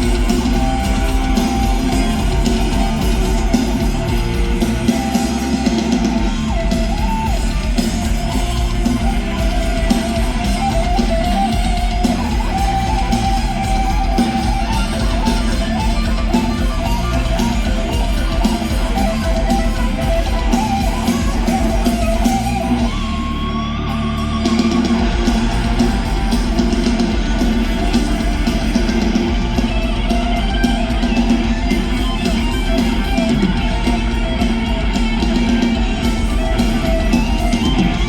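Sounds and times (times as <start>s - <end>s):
rock band playing instrumental: 0.0s - 38.0s.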